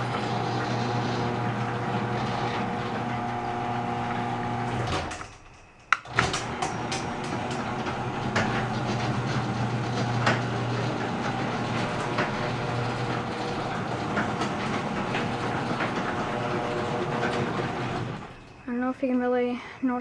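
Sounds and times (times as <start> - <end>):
garage door opener motor humming: 0.0 - 18.8.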